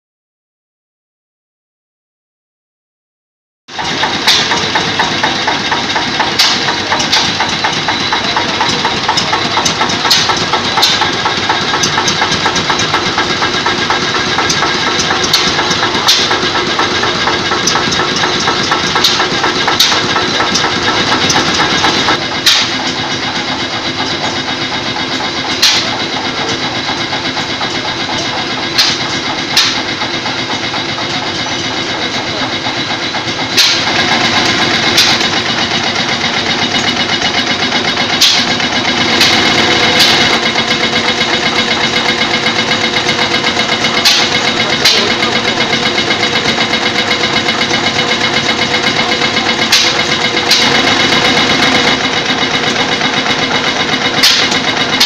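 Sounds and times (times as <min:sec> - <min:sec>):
stationary engines chugging: 0:03.7 - 0:55.0.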